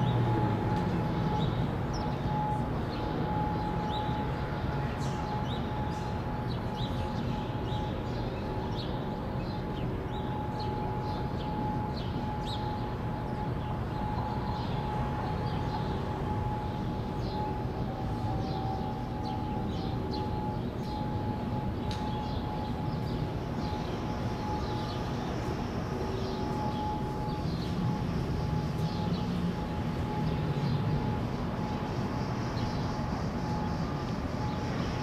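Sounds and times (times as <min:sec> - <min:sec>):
rotating siren single tone: 0:00.0 - 0:08.7, 0:09.5 - 0:35.0.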